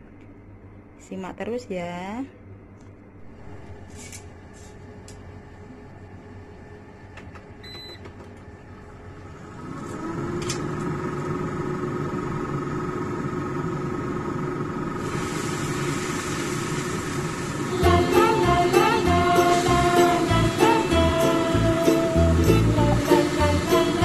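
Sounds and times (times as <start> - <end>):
motor hum with low drone: 2.4 - 24.0.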